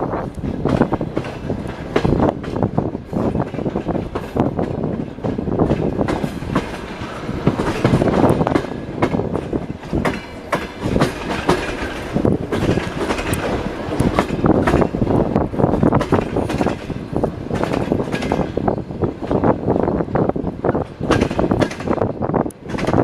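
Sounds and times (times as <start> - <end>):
train running rumble: 0.0 - 23.0
train wheels clattering: 0.2 - 23.0.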